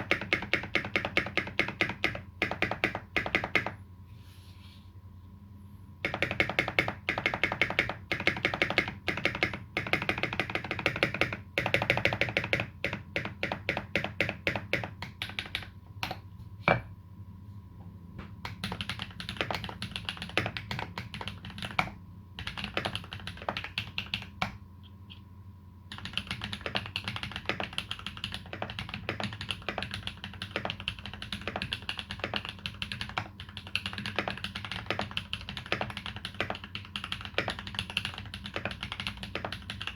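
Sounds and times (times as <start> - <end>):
mechanical keyboard typing: 0.0 - 3.8, 6.0 - 16.2, 18.5 - 24.6, 25.9 - 39.9.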